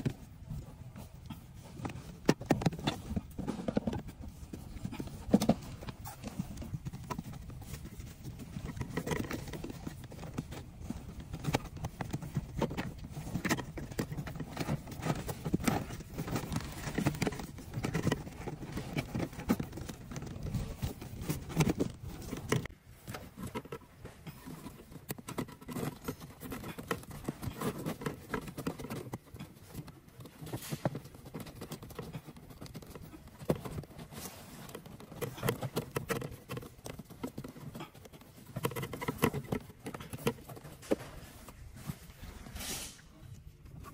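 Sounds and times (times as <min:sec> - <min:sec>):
plastic parts clicking and rustling: 0:00.0 - 0:42.2.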